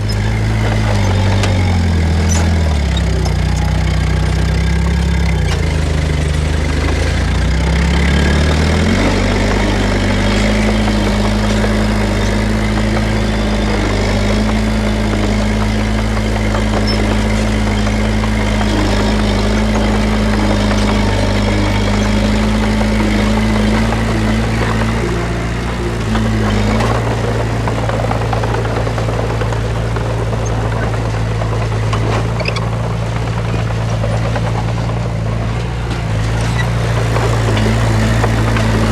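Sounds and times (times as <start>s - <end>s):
heavy diesel engine revving: 0.0s - 38.9s.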